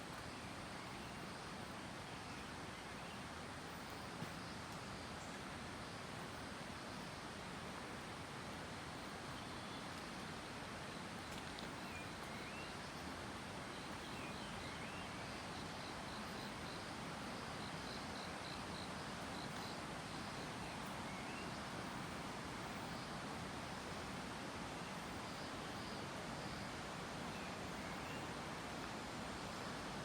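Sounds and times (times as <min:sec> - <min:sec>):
rushing background hiss: 0:00.0 - 0:30.0.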